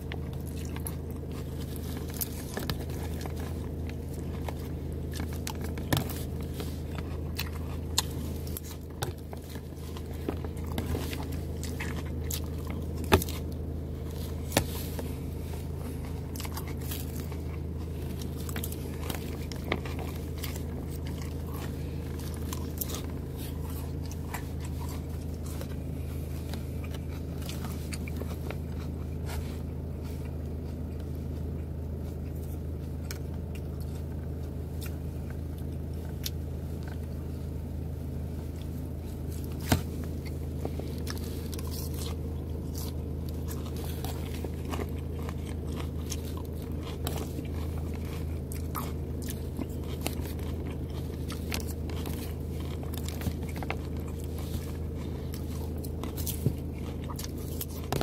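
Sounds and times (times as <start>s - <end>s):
chewing and crunching lettuce: 0.0s - 58.0s
steady low hum: 0.0s - 58.0s.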